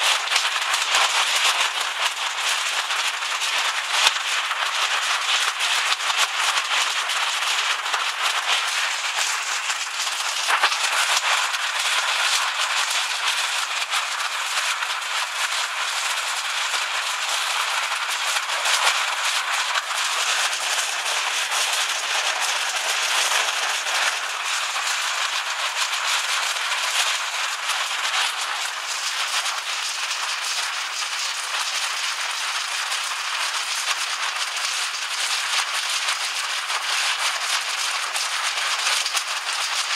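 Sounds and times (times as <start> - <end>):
hail and heavy rain pelting: 0.0 - 39.9.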